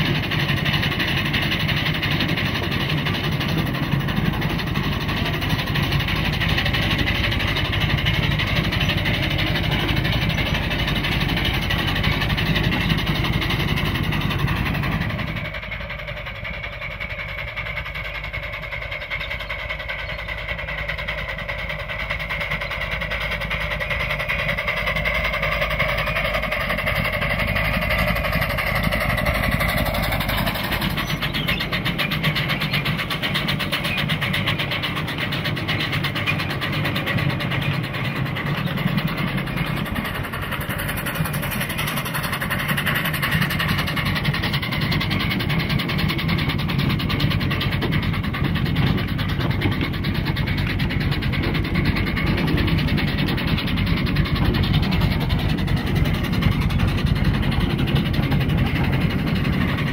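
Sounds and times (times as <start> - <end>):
steam locomotive running: 0.0 - 59.9.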